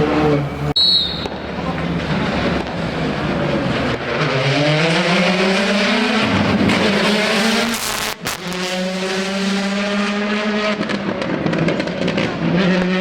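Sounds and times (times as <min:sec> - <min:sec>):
rally car engine revving: 0:01.6 - 0:13.0.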